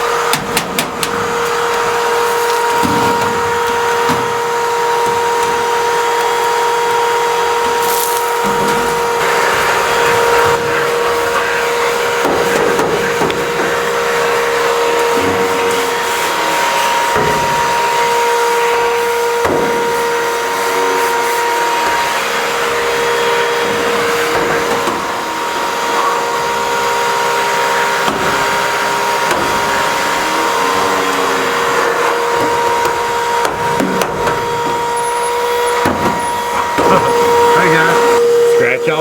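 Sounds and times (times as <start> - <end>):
vacuum cleaner whining: 0.0 - 39.0.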